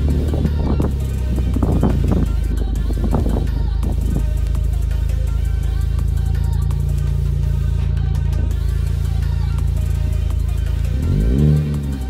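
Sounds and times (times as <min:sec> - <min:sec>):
background music with loud bass: 0:00.0 - 0:12.0.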